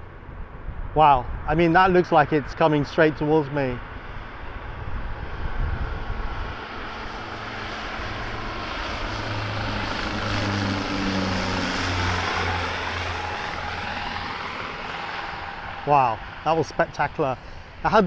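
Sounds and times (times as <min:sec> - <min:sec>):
engine whine falling in pitch: 0:00.0 - 0:18.0
propeller aircraft passing overhead: 0:00.0 - 0:18.0.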